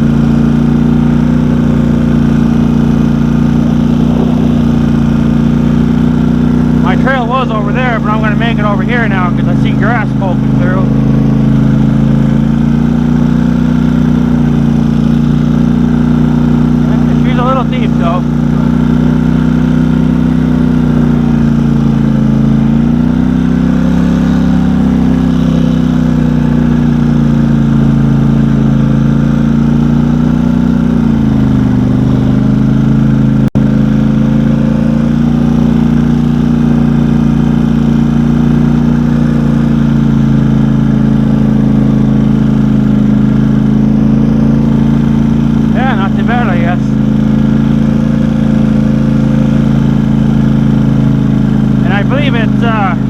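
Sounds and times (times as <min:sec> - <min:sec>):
off-road engine running under load: 0:00.0 - 0:53.0.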